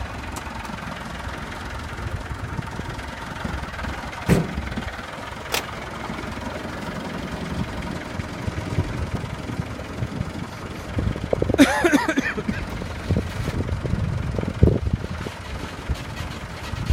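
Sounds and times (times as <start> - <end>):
vehicle engine idling: 0.0 - 16.9.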